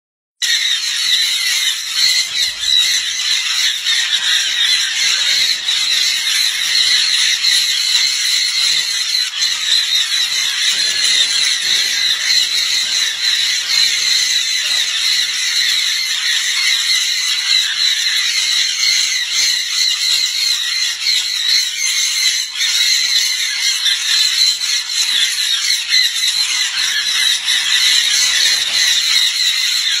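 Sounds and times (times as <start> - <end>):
conures screeching: 0.4 - 30.0.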